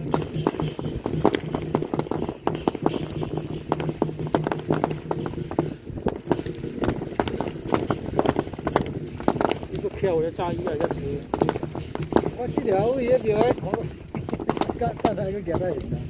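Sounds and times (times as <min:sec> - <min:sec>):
fire rumbling: 0:00.0 - 0:16.0
firecrackers popping: 0:00.0 - 0:16.0.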